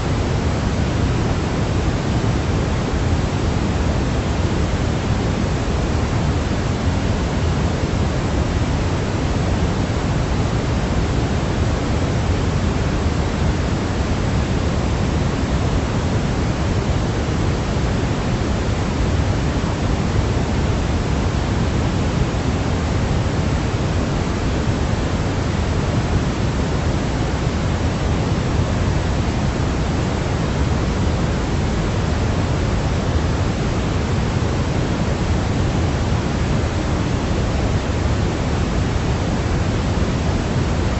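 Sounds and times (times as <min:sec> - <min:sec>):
steady low hiss: 0:00.0 - 0:40.9.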